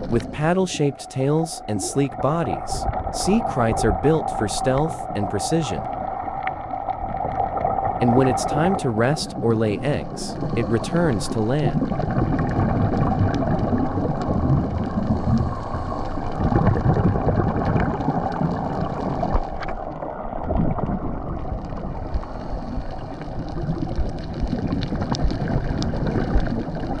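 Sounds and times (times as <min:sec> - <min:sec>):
underwater rush and gurgle: 0:00.0 - 0:27.0.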